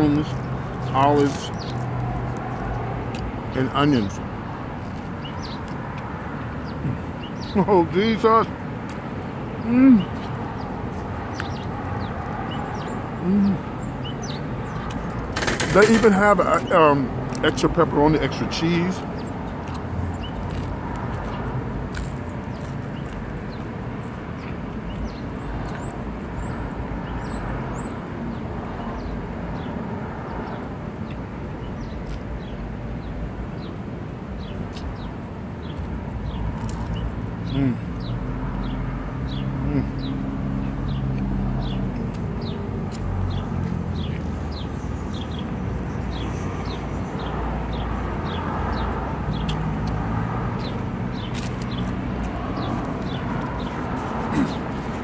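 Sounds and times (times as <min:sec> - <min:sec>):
low rumble of road vehicles: 0:00.0 - 0:55.0
traffic noise: 0:00.0 - 0:55.0.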